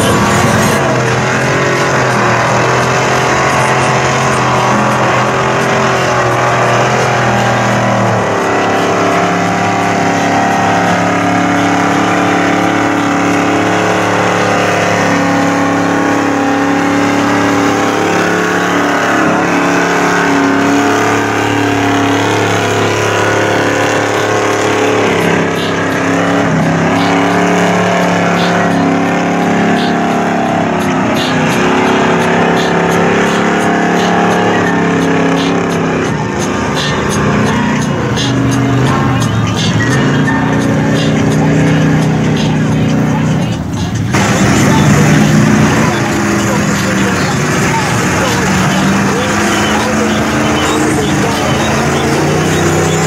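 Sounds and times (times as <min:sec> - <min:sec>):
engine running under load: 0:00.0 - 0:53.0
tires churning through mud: 0:00.0 - 0:53.0.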